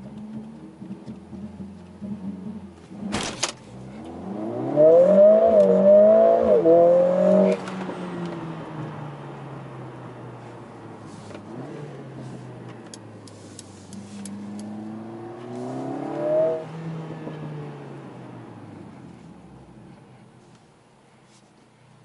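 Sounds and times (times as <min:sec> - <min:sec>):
car engine accelerating: 0:00.0 - 0:20.3.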